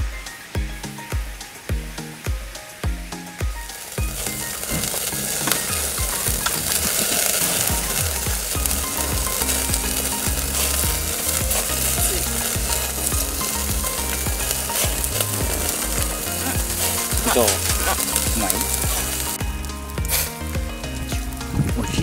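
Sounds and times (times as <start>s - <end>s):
background music: 0.0s - 22.0s
food sizzling in a pan: 0.0s - 22.0s.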